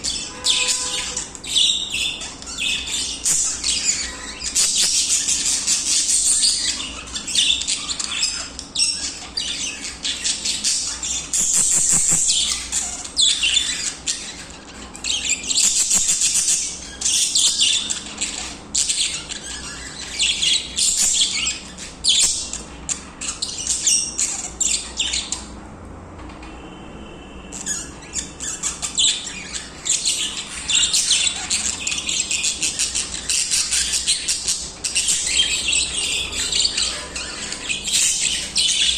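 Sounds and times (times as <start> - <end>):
budgerigars chirping: 0.0 - 25.6, 27.5 - 38.9.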